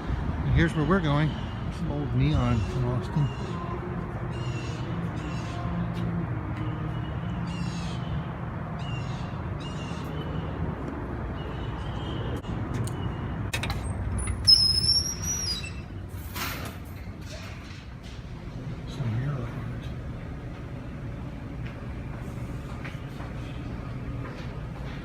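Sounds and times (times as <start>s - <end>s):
low traffic hum: 0.0s - 25.0s.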